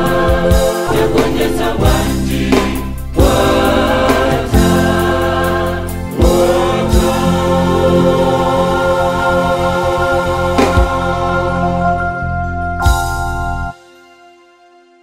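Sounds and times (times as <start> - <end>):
gospel choir singing in harmony: 0.0 - 13.0.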